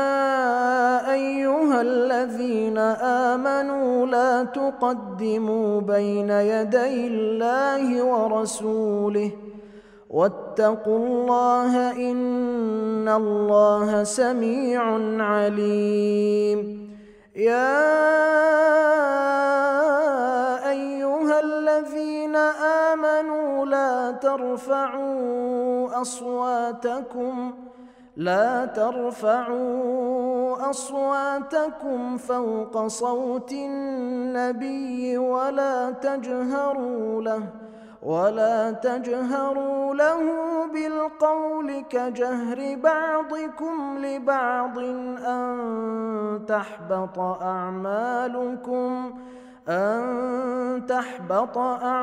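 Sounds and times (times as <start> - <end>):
man reciting melodically: 0.0 - 52.0.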